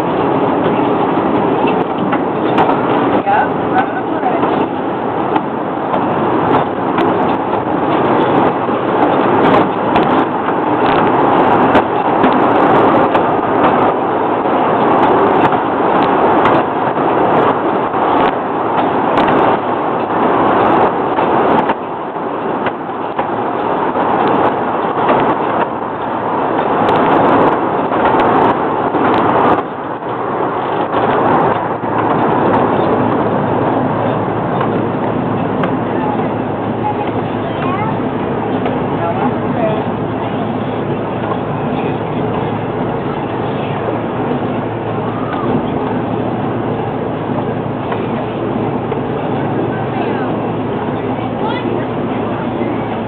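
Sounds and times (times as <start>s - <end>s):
sharp clicks and clacks: 0.0s - 53.0s
train wheels rumbling and rattling: 0.0s - 53.0s.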